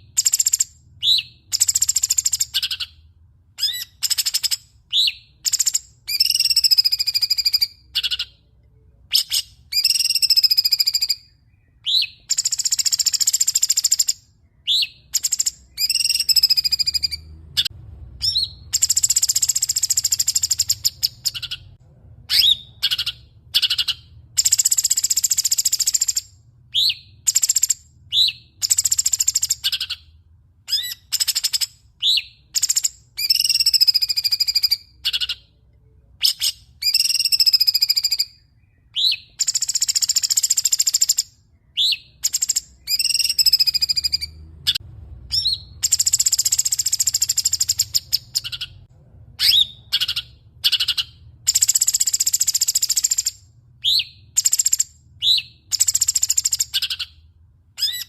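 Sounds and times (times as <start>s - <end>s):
bird chirps: 0.0s - 58.0s
songbird singing: 0.0s - 58.0s.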